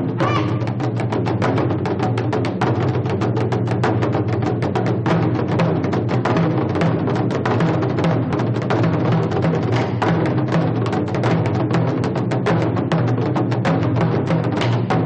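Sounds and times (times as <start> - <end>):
fast drum strikes: 0.0 - 15.0.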